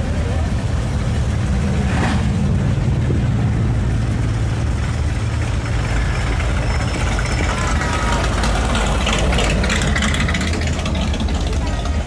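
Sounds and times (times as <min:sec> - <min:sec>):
car engines running at low speed: 0:00.0 - 0:12.0.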